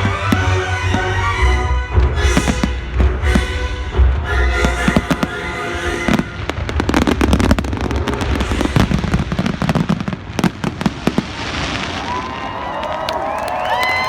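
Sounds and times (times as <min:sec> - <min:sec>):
fireworks bangs and crackles: 0:00.0 - 0:01.3, 0:02.0 - 0:03.7, 0:04.6 - 0:13.6.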